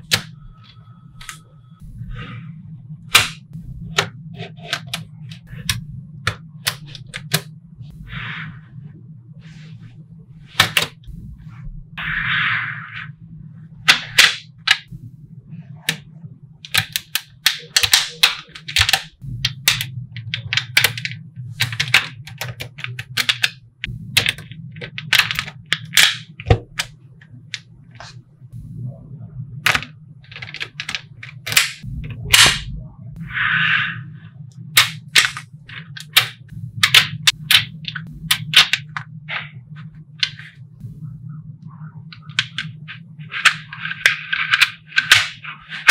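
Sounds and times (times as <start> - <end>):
low hum: 0.0 - 45.9.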